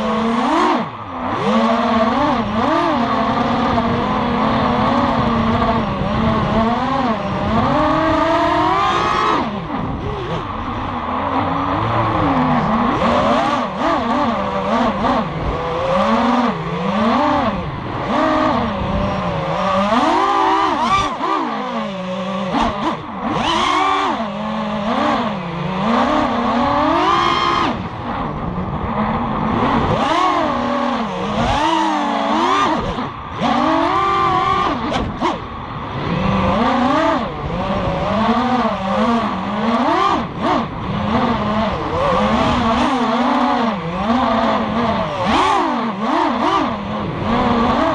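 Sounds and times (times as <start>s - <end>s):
quadcopter motors whining: 0.0s - 28.8s, 29.6s - 47.9s.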